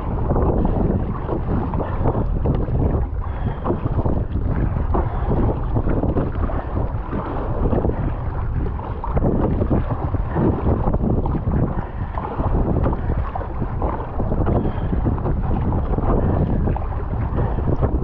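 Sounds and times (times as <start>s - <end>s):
water splashing against hull: 0.0s - 18.0s
wind noise on microphone: 0.0s - 18.0s.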